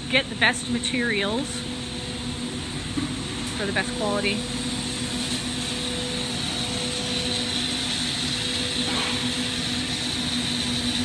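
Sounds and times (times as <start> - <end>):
constant hum: 0.0 - 11.0
torch flame roaring: 1.8 - 11.0.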